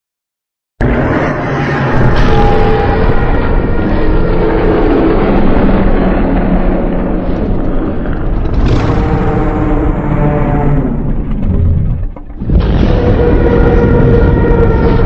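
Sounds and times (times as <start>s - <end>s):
harsh monster noise: 0.8s - 15.0s
low rumble: 0.8s - 15.0s.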